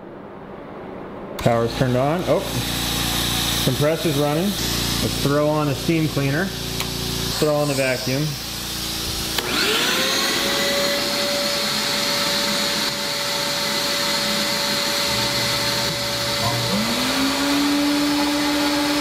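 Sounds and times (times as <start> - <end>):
machine motor lower whine: 0.0 - 19.0
steam cleaner running: 1.4 - 19.0
vacuum motor whining: 1.4 - 19.0
air compressor running: 1.5 - 19.0.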